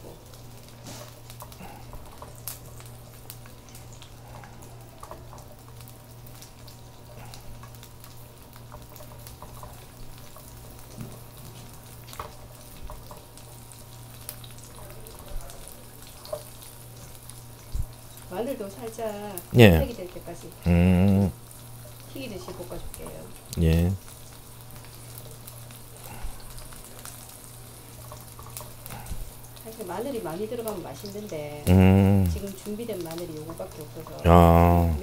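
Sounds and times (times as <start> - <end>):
garlic sizzling in oil: 0.0 - 20.6, 21.4 - 31.7, 32.4 - 34.2.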